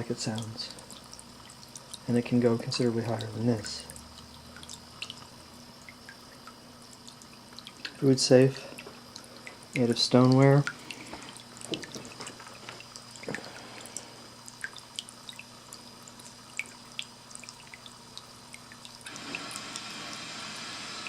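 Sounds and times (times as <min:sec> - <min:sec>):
fountain water trickling: 0:00.0 - 0:20.2
faint pump hum: 0:00.0 - 0:21.0.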